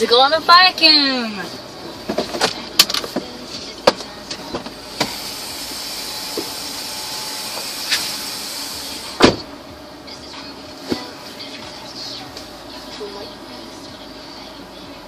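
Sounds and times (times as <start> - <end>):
steady hiss inside car: 0.0 - 15.0.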